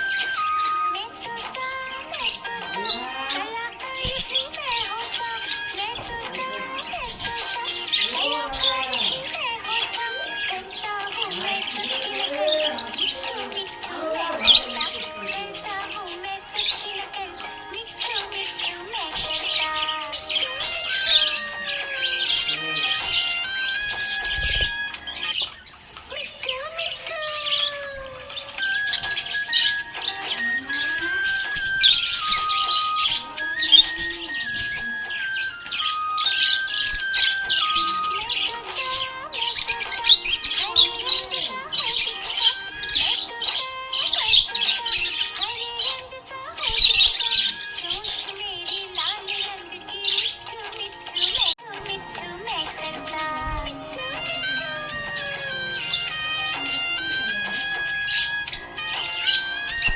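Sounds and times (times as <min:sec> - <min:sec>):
background music with held notes: 0:00.0 - 0:59.9
budgerigars chirping: 0:00.0 - 0:59.9.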